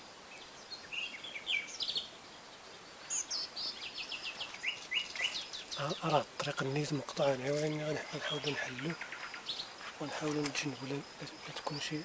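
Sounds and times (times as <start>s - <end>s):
faint hiss: 0.0s - 12.0s
small bird chirping: 0.3s - 12.0s.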